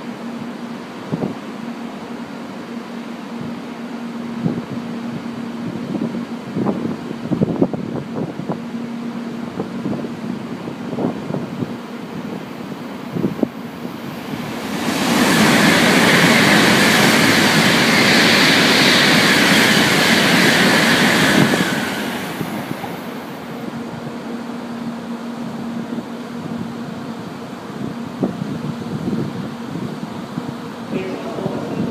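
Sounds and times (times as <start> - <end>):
bullet train passing at speed: 0.0 - 31.9.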